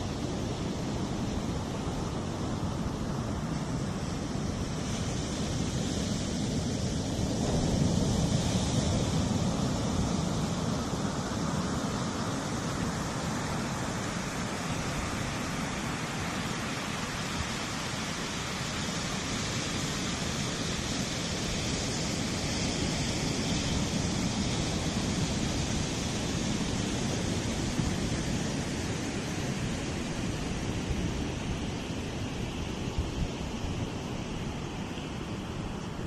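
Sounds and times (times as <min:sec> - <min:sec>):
small waves breaking on sand: 0:00.0 - 0:36.0
wind: 0:00.0 - 0:36.0.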